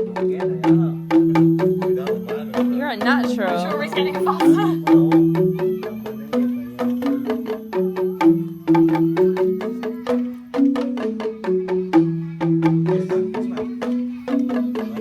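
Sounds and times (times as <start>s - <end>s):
keyed percussion melody: 0.0s - 15.0s.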